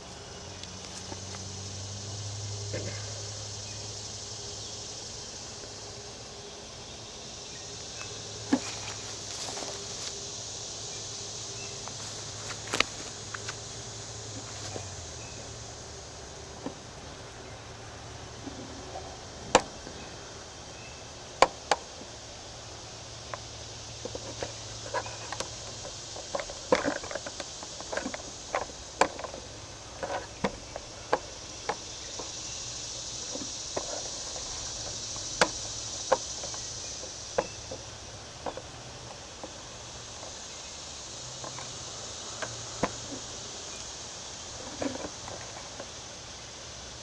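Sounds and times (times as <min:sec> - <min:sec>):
high-pitched insect chorus: 0:00.0 - 0:47.0.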